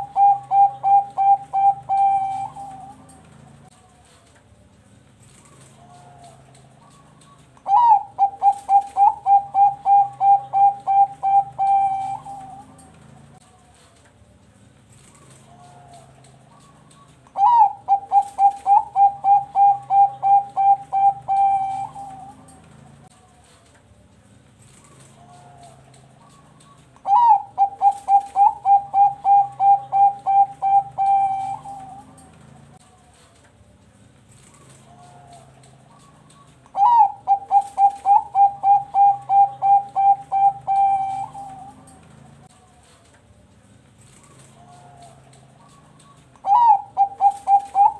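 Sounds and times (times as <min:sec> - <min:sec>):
dove cooing: 0:00.0 - 0:04.2, 0:05.2 - 0:14.0, 0:15.0 - 0:23.6, 0:24.6 - 0:33.3, 0:34.3 - 0:43.0, 0:44.0 - 0:47.9.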